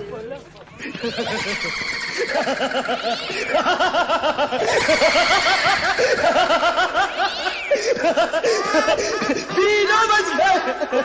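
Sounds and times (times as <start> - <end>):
loud laughter: 0.8 - 11.0.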